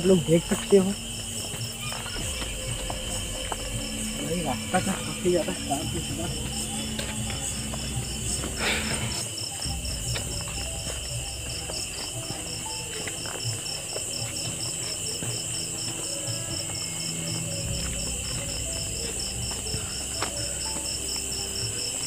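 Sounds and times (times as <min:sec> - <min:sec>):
crickets chirping: 0:00.0 - 0:22.0
footsteps on dirt path: 0:00.0 - 0:22.0
insect high trill: 0:00.0 - 0:22.0.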